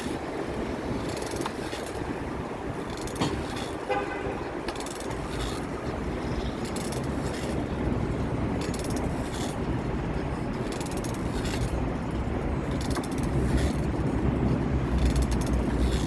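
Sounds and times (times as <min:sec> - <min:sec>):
bicycle road noise: 0:00.0 - 0:16.0
wind on microphone: 0:00.0 - 0:16.0.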